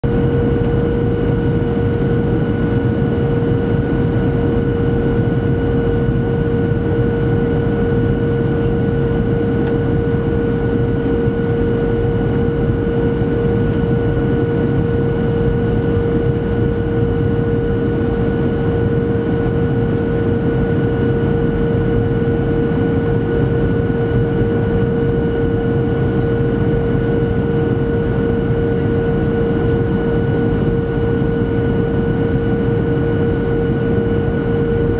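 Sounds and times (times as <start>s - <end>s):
constant hum-like tone: 0.0s - 34.9s
jet engine drone: 0.0s - 34.9s.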